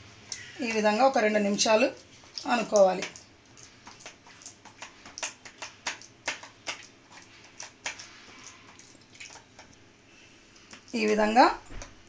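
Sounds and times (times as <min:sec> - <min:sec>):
dough being kneaded by hand: 0:00.0 - 0:12.0.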